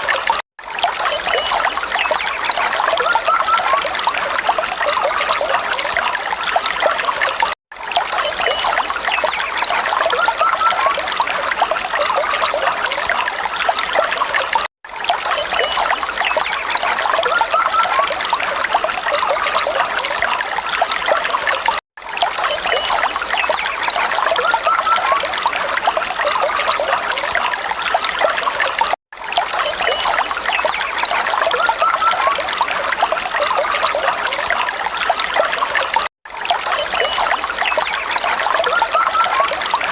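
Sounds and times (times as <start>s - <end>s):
water falling and trickling: 0.0s - 39.9s.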